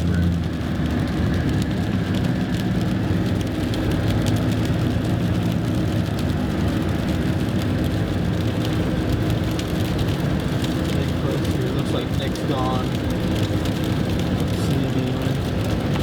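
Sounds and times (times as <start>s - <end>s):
truck engine and road drone: 0.0s - 16.0s.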